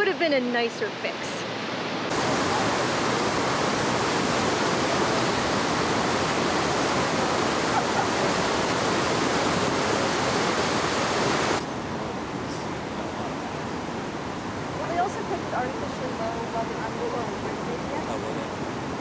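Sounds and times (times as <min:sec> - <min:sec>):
rushing floodwater: 0:01.5 - 0:19.0.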